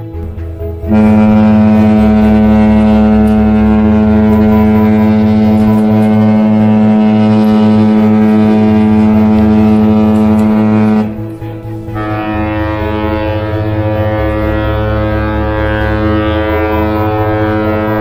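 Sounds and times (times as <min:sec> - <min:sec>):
ship horn long blast: 0:00.0 - 0:18.0.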